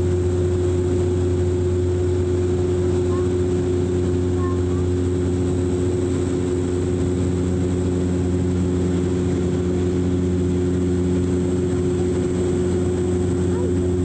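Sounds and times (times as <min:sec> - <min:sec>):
turboprop cabin drone: 0:00.0 - 0:14.0.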